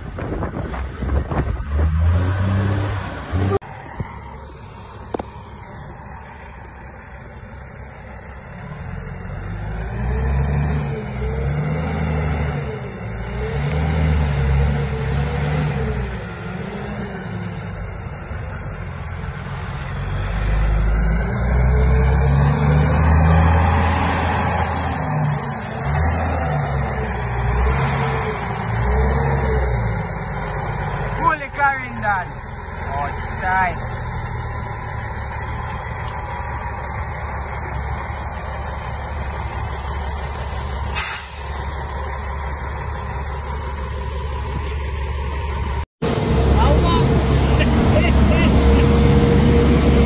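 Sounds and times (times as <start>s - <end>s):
diesel truck engine: 0.0s - 50.0s.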